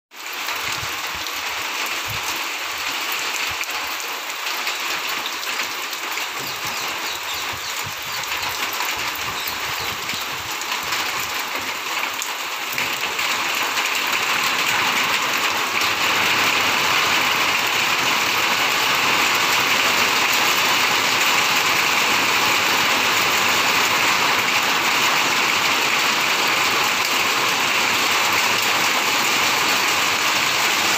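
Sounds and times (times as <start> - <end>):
rain falling on grass and leaves: 0.1 - 30.9.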